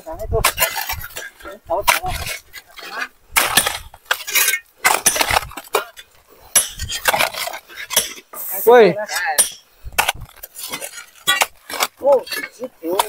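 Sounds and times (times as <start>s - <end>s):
hoes striking stony earth: 0.2s - 13.0s.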